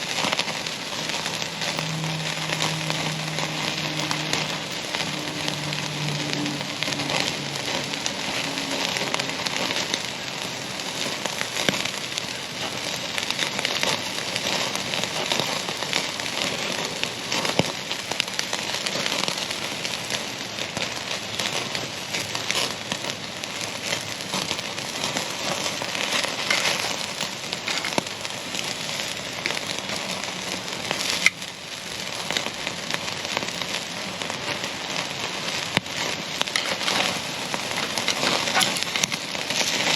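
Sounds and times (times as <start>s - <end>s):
crackles and pops: 0.0s - 39.9s
steak sizzling on grill: 0.0s - 39.9s.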